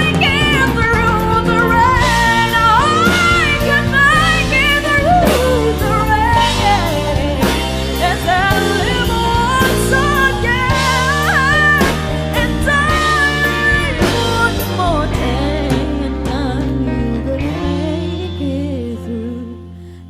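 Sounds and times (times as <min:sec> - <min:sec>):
band accompaniment: 0:00.0 - 0:19.2
woman singing pop ballad: 0:00.0 - 0:20.0.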